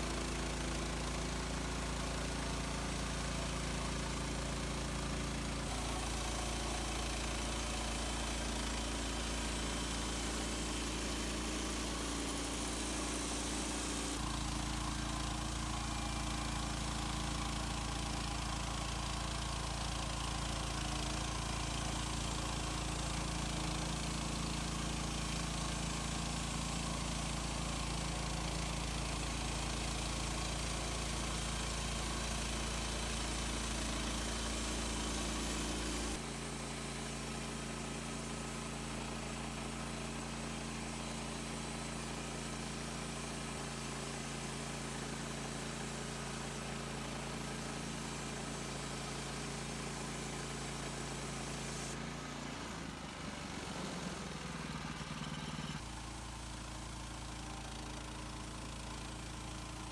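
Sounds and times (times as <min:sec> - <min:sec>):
gas engine running: 0:00.0 - 0:59.9.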